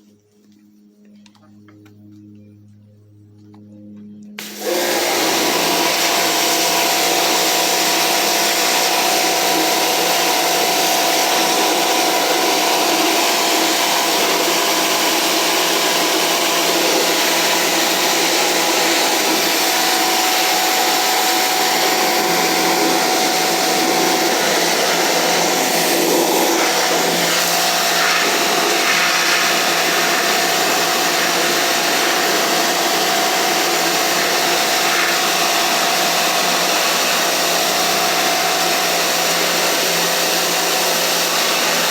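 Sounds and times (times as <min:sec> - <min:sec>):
pressure washer spraying: 0:04.4 - 0:41.9.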